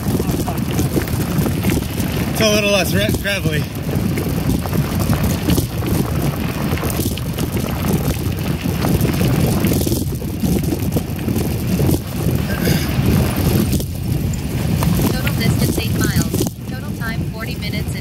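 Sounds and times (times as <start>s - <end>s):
bike rattling and knocking: 0.0s - 18.0s
bike tyres rumbling on gravel: 0.0s - 18.0s
wind buffeting microphone: 0.0s - 18.0s.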